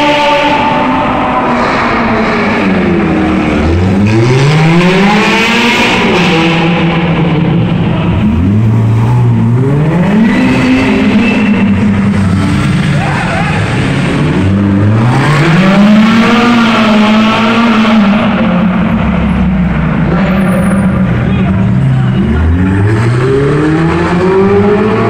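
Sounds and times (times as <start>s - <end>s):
sports car engines accelerating: 0.0s - 25.0s.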